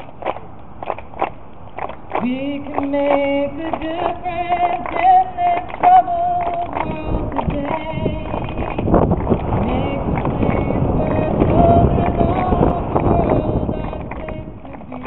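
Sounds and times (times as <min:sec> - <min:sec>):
women singing with vibrato: 0:02.2 - 0:15.0.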